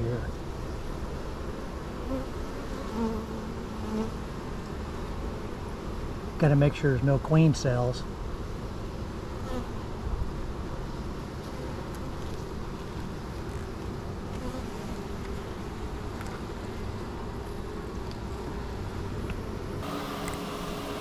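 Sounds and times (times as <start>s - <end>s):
honeybees buzzing: 0.1s - 7.1s, 8.1s - 21.0s.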